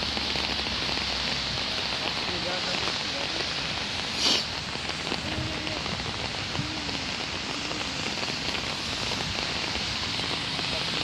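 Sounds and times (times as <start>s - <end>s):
rain falling on wet pavement: 0.0s - 11.0s.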